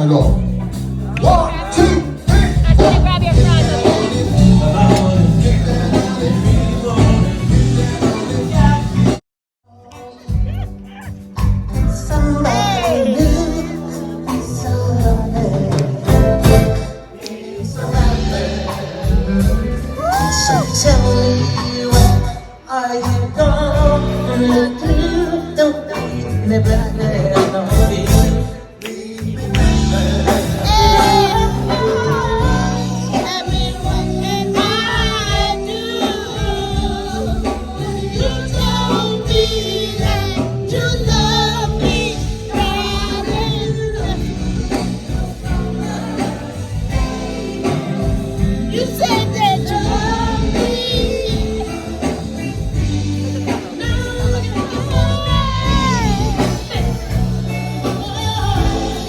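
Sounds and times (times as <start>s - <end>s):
gospel song with band: 0.0s - 59.0s.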